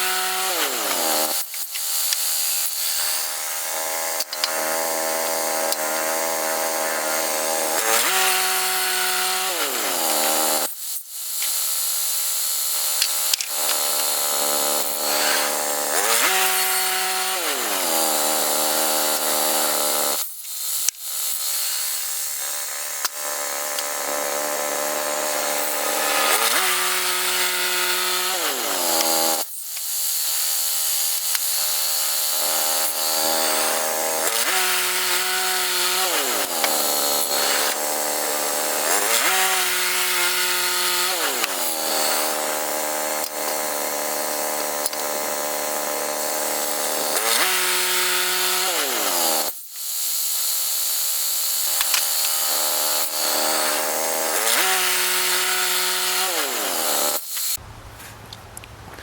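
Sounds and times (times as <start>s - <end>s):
saw blade cutting log: 0.0s - 10.7s, 11.3s - 57.6s.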